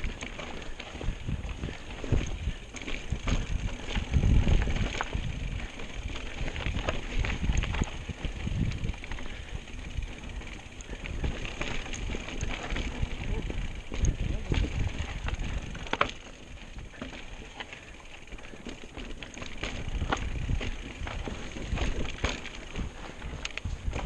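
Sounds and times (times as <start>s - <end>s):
bike clicks and rattles: 0.0s - 24.0s
bike rolling over rocky trail: 0.0s - 24.0s
wind buffeting microphone: 0.0s - 24.0s.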